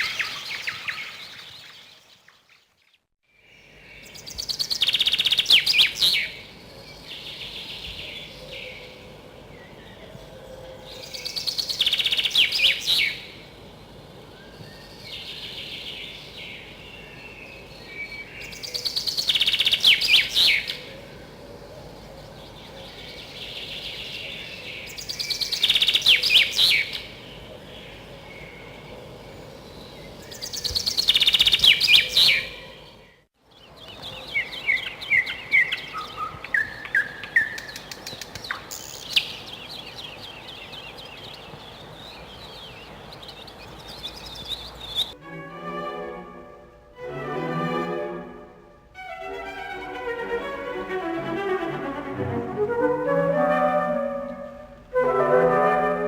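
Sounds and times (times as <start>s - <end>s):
songbird singing: 0.0s - 52.4s.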